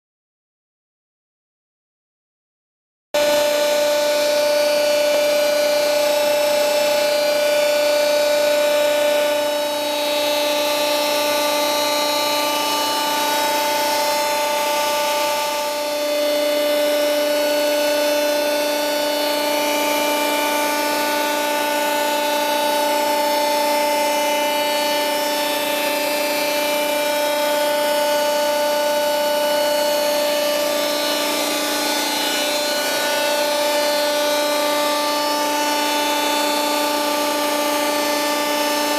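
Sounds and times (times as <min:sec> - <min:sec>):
hydraulic pump whine: 0:03.2 - 0:38.9.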